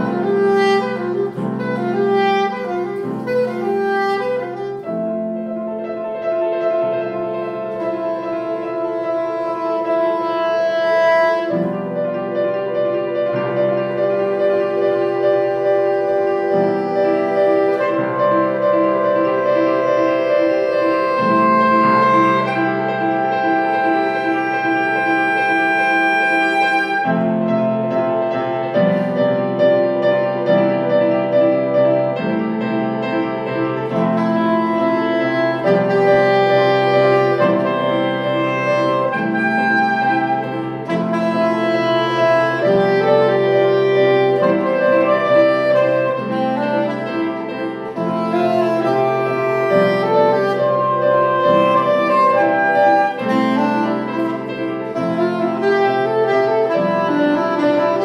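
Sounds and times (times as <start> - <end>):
piano repeated chords: 0.0 - 58.0
soprano saxophone long notes: 0.0 - 58.0.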